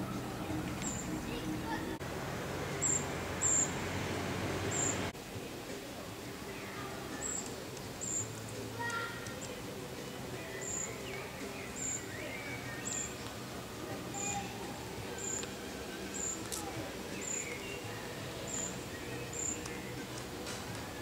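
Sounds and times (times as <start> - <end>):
birds chirping: 0.0 - 5.2, 6.2 - 21.0.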